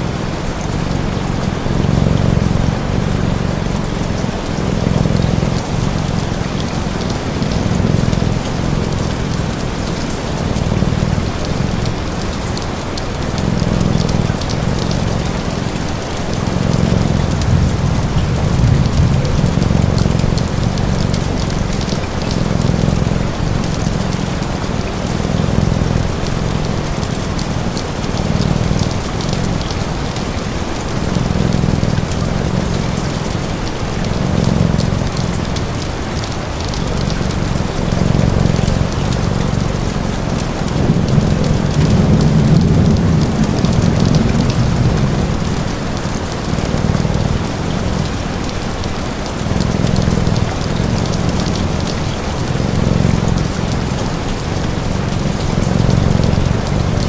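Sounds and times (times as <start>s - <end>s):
steady rain: 0.0s - 57.0s
cat purring: 0.1s - 57.0s
fire crackling: 1.5s - 48.4s, 49.3s - 57.0s.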